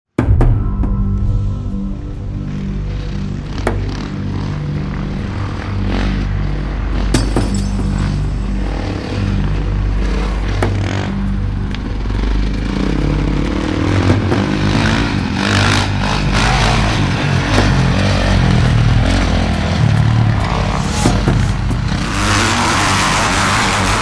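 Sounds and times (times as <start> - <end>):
motorcycle engines revving: 2.3 - 24.0.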